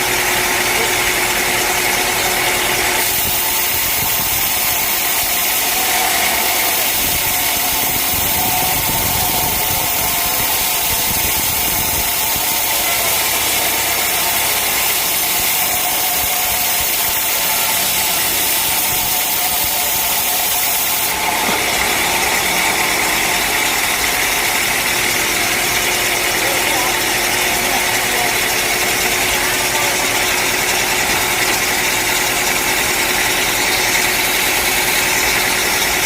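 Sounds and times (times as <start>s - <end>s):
sawmill machinery running: 0.0s - 36.0s.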